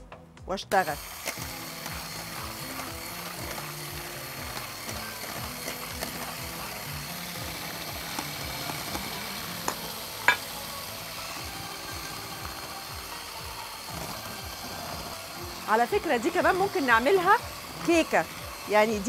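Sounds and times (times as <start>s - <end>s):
electric hand mixer whirring: 0.7s - 19.0s.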